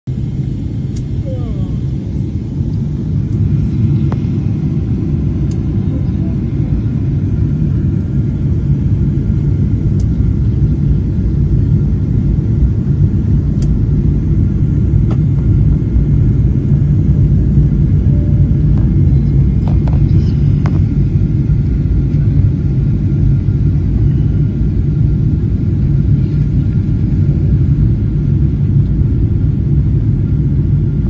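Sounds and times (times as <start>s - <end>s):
low rumble of jet engines: 0.1s - 31.0s.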